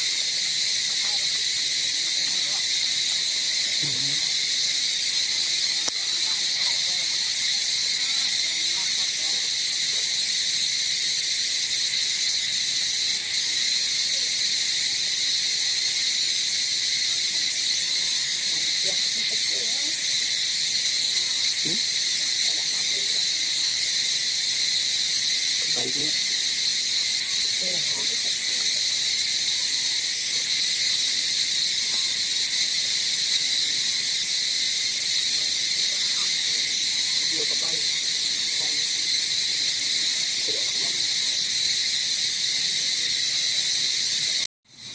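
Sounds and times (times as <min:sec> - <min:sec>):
forest insects droning: 0:00.0 - 0:44.9.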